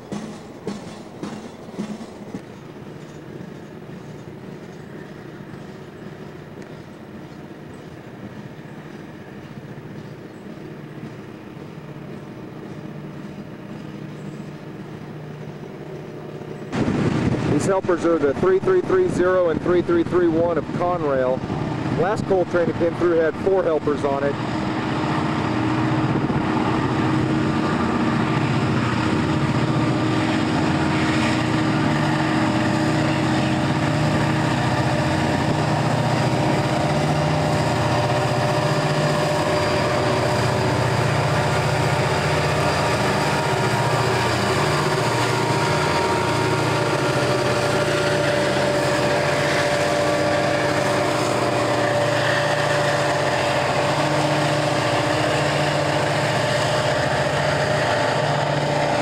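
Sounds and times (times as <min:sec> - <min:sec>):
diesel locomotive engines droning: 0:00.0 - 0:59.0.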